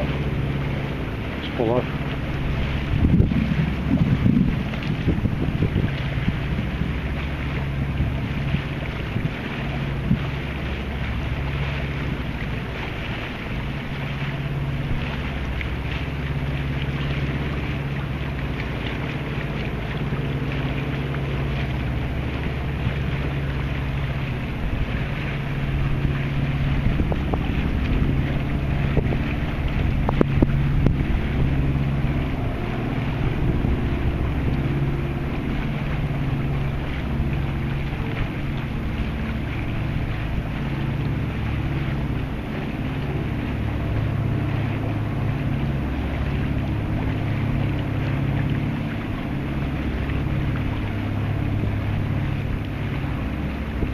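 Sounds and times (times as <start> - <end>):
boat engine running: 0.0 - 53.9
wind noise on microphone: 2.2 - 46.4, 47.0 - 53.9.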